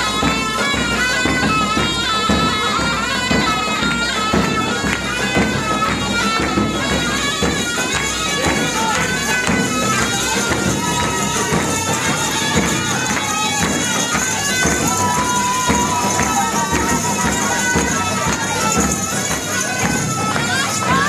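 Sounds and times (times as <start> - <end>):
crowd noise: 0.0 - 21.0
steady drum beat: 0.0 - 21.0
wind instrument melody: 0.0 - 21.0.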